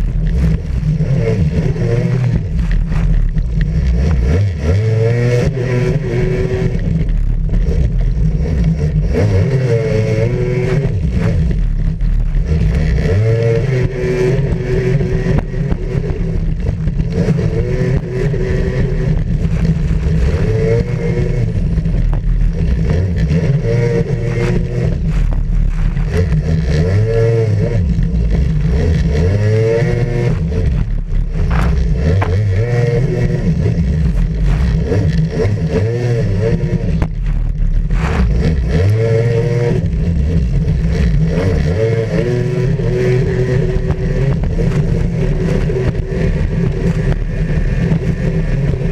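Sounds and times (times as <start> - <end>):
jet ski engine revving: 0.0 - 48.9.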